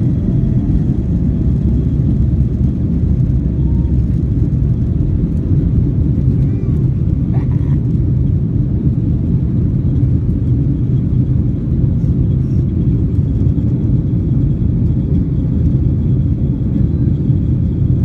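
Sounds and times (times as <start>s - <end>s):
jet engines rumbling in cabin: 0.0s - 18.0s.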